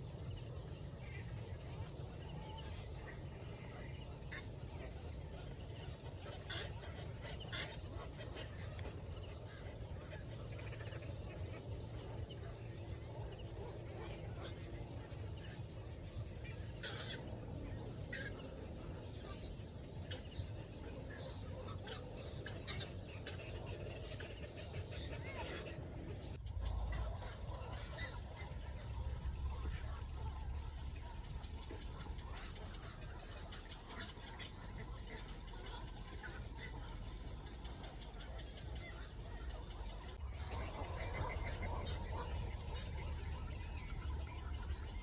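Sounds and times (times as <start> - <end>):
birds chirping and calling: 0.0 - 45.0
low background rumble: 0.0 - 45.0.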